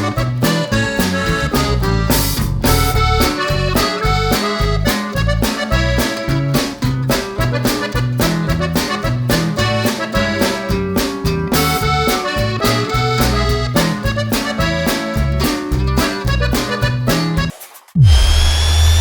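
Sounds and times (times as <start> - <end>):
background music with steady beat: 0.0 - 17.8.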